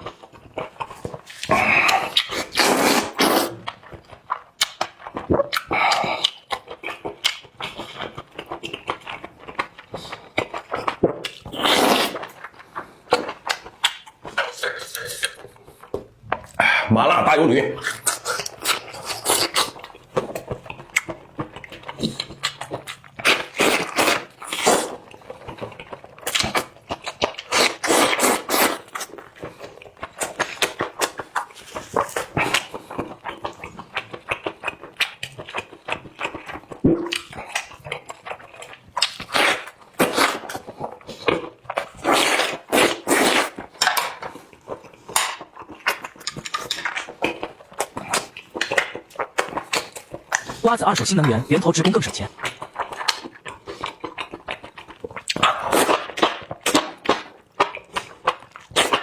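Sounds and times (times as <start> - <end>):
wet chewing and mouth smacking: 0.0 - 16.9, 17.6 - 59.0.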